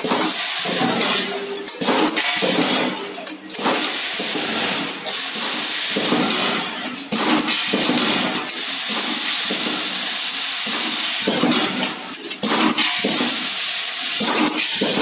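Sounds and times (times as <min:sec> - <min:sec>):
packaging machine hissing: 0:00.0 - 0:15.0.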